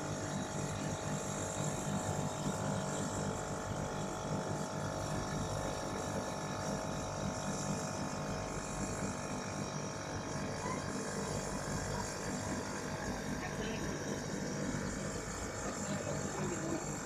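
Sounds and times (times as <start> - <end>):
refrigeration compressor humming: 0.0 - 17.0.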